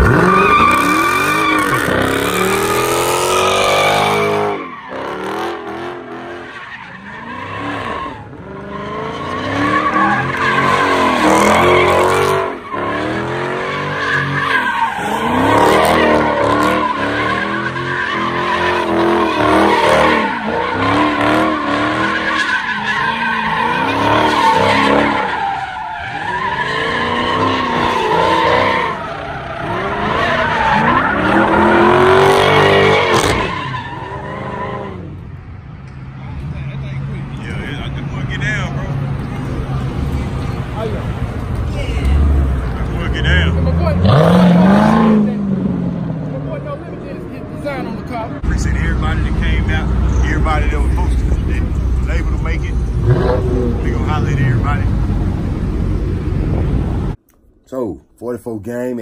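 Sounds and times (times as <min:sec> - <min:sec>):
car engine revving: 0:00.0 - 0:35.3, 0:36.2 - 0:57.3
tires squealing: 0:00.0 - 0:57.2.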